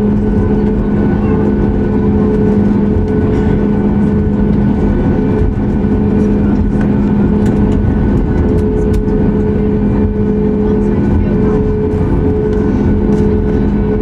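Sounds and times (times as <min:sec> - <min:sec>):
jet engines droning: 0:00.0 - 0:14.0.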